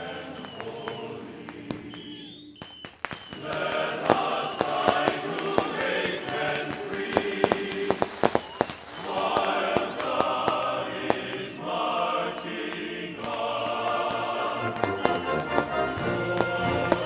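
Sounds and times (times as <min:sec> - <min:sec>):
music with singing voices: 0:00.0 - 0:02.4, 0:03.4 - 0:08.3, 0:08.9 - 0:17.0
fireworks popping and crackling: 0:00.0 - 0:17.0.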